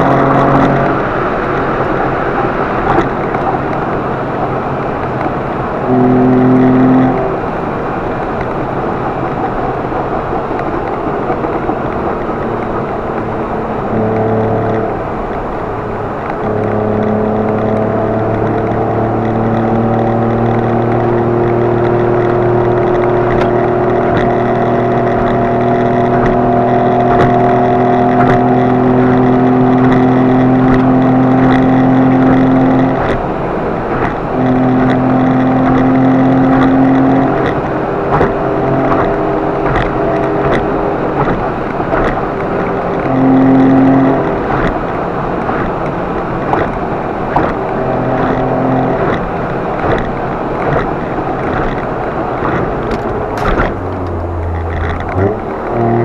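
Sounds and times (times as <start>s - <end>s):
car engine drone: 0.0s - 56.0s
road noise inside car: 0.0s - 56.0s.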